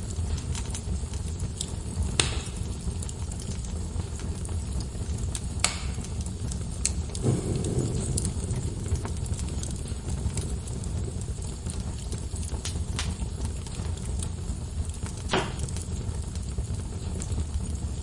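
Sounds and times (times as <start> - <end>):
fire popping and cracking: 0.0 - 18.0
low rumble of burning logs: 0.0 - 18.0.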